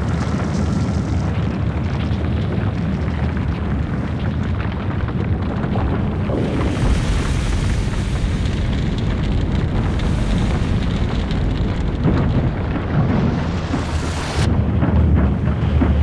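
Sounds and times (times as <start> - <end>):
underwater anchor scraping rumble: 0.0 - 16.0.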